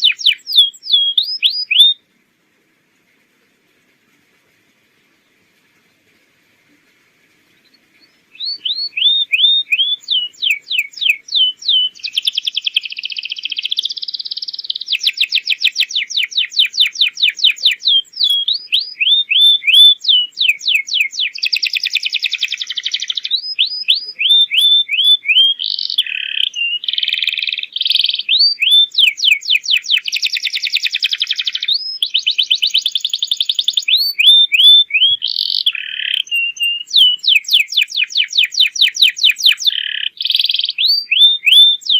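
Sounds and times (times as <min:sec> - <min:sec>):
canary singing: 0:00.0 - 0:02.0, 0:07.6 - 0:41.9.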